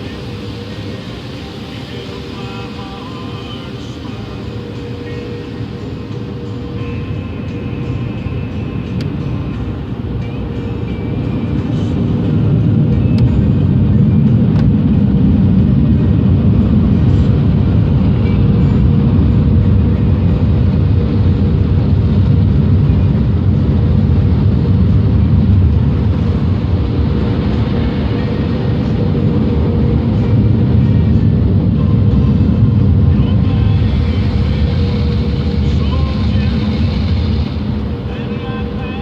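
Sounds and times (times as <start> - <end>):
car wash machinery rumble: 0.0 - 39.0.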